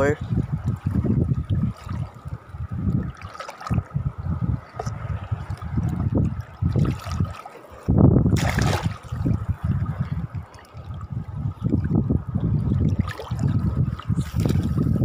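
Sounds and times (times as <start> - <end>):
rush of water: 0.0 - 15.0
seawater sloshing and lapping: 0.7 - 15.0.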